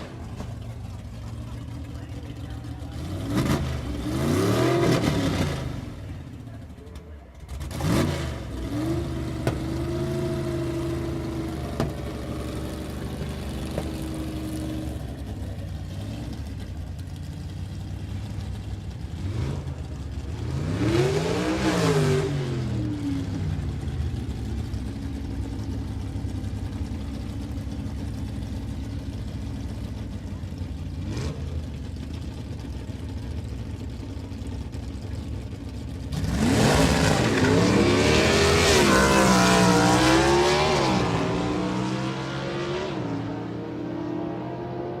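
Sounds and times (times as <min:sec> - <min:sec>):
motorcycle engine idling and revving: 0:00.0 - 0:45.0.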